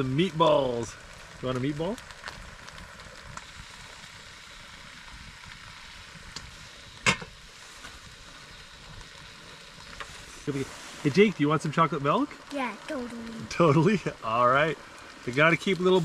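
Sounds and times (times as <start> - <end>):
quiet steady hiss: 0.0 - 16.0.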